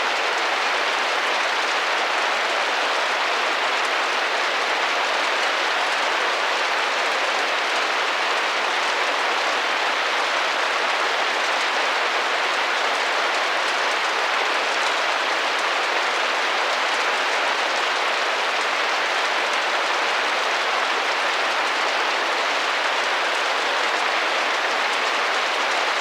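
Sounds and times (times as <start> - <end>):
rain tapping on a window: 0.0 - 26.0.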